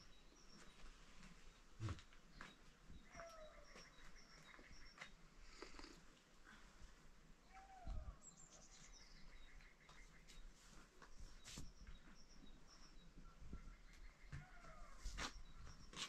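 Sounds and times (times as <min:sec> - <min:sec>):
small birds chirping: 0:00.0 - 0:06.8, 0:07.4 - 0:16.0.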